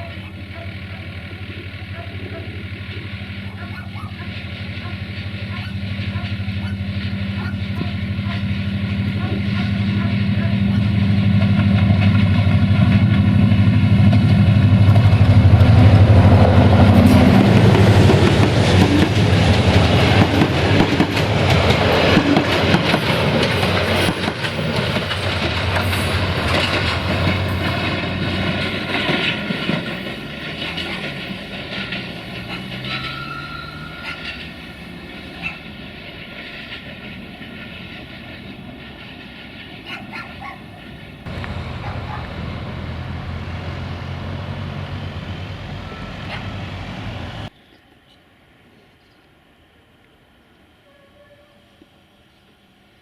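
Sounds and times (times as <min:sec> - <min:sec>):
train wheels clacking on rails: 0:00.0 - 0:47.5
diesel locomotive engine hum: 0:00.0 - 0:48.7.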